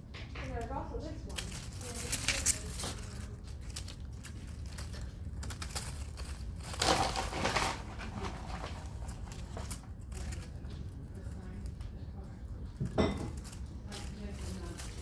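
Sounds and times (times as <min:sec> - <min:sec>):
paper crinkling and rustling: 0:00.1 - 0:15.0.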